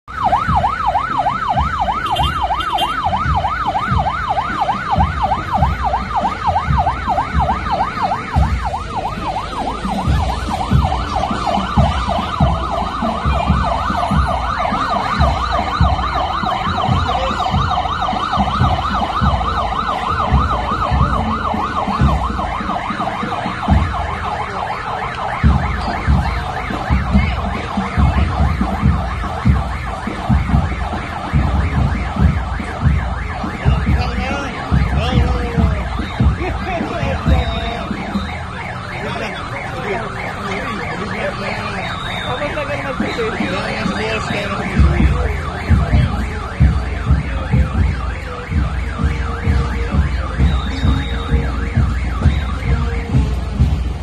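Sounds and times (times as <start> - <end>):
police siren yelping: 0.0 - 54.0.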